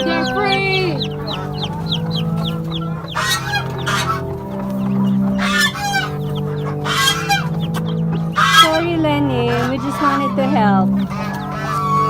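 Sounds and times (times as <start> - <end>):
chicks peeping: 0.0 - 12.0
hen calling loudly: 0.0 - 12.0.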